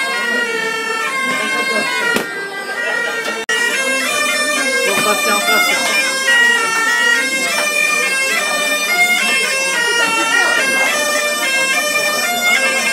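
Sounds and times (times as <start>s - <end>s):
bagpipes playing folk tune: 0.0s - 12.9s
wooden flutes: 0.0s - 12.9s.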